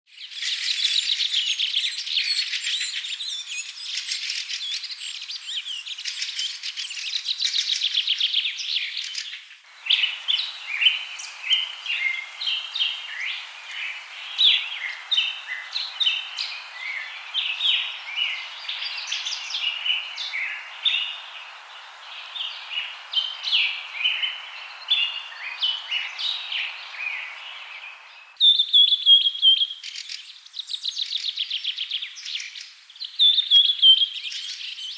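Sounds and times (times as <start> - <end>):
faint hiss: 0.2 - 34.9
songbirds chirping and singing: 0.2 - 34.9.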